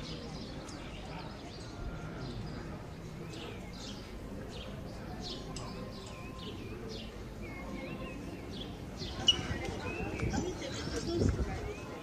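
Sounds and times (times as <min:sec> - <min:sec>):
birds chirping: 0:00.0 - 0:12.0
murmur of voices: 0:00.0 - 0:12.0.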